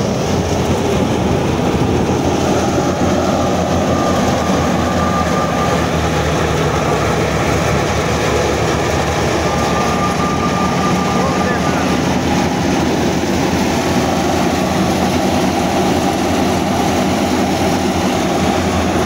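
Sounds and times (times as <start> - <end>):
thresher mechanical churn: 0.0 - 19.0.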